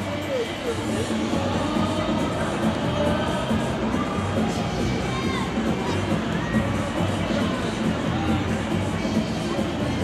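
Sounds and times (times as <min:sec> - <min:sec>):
music over stadium loudspeakers: 0:00.0 - 0:10.0.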